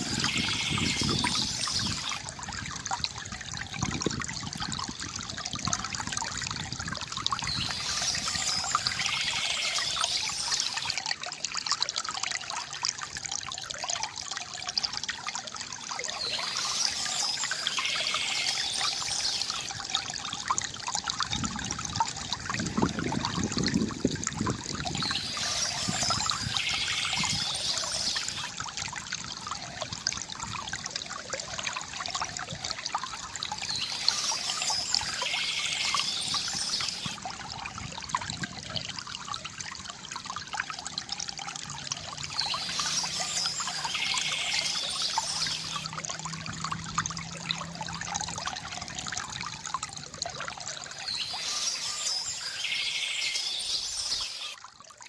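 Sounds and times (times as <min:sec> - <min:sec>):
fountain water trickling and splashing: 0:00.0 - 0:55.0.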